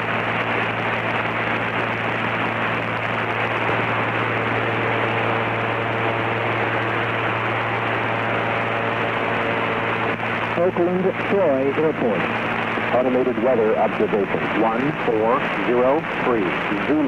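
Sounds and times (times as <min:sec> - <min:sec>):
headset intercom hiss and hum: 0:00.0 - 0:17.0
muffled aircraft engine drone: 0:00.0 - 0:17.0.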